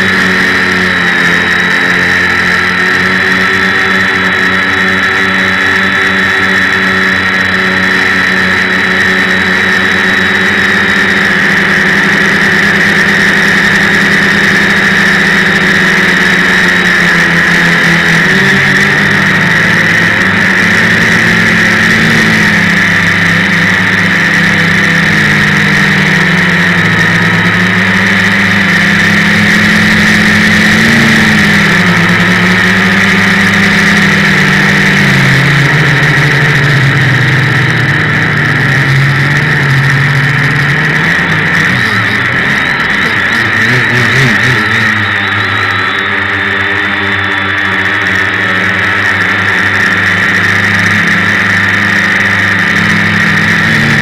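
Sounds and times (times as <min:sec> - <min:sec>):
drone motors whining: 0:00.0 - 0:54.0.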